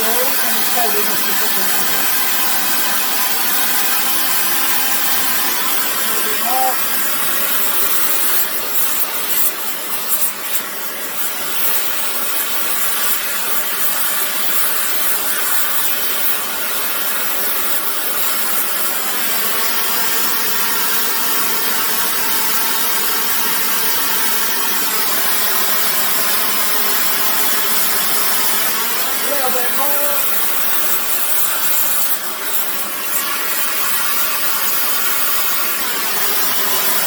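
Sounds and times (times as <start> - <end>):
gas torch hissing: 0.0 - 37.0.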